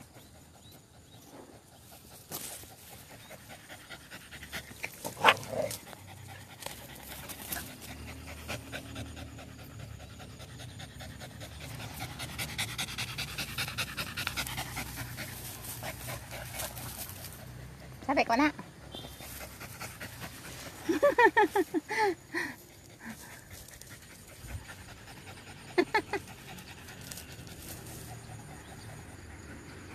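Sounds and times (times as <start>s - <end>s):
dog panting rapidly: 0.0s - 21.1s, 21.8s - 29.9s.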